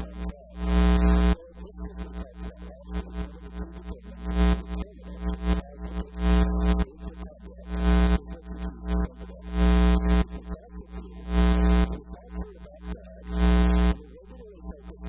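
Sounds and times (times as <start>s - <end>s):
electrical mains hum and buzz: 0.0s - 15.0s.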